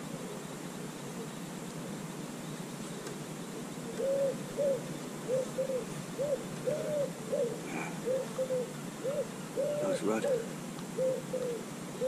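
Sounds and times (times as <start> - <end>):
wood pigeon cooing: 0.0 - 12.0.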